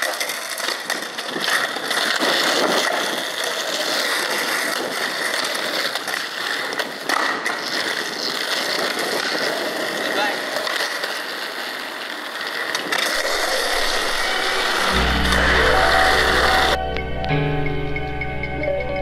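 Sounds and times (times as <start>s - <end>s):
skateboard wheels rolling on asphalt: 0.0s - 19.0s.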